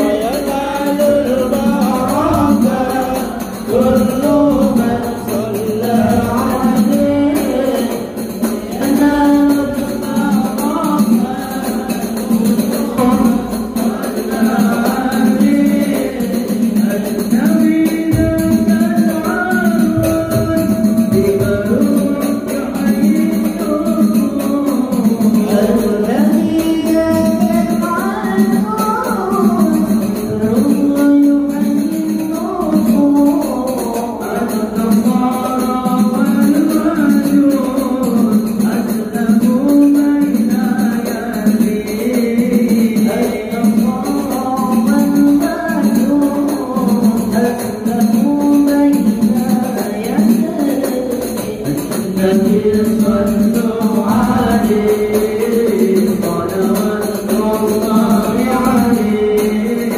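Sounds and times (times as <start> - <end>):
jingling hand percussion: 0.0 - 59.9
person singing devotional song: 0.0 - 59.9.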